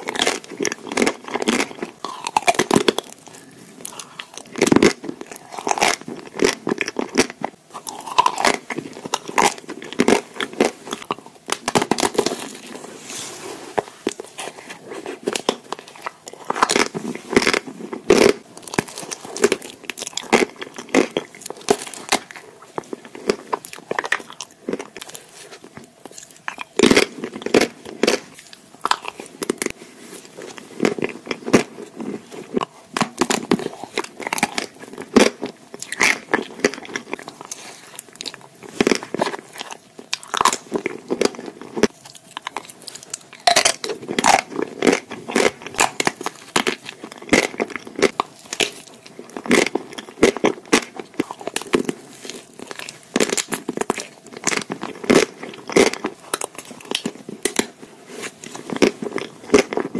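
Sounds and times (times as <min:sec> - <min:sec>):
chocolate coating cracking: 0:00.0 - 0:12.8, 0:13.8 - 0:57.8
chewing: 0:00.0 - 0:59.9.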